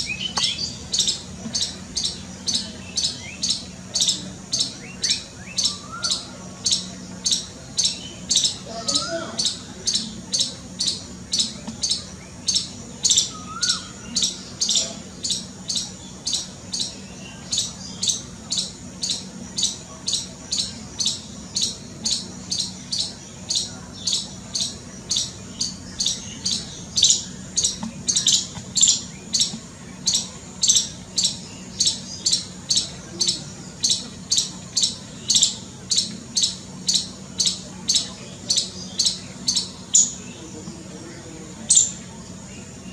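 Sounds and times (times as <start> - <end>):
squirrel alarm chirps: 0.0 - 40.3, 41.7 - 42.0.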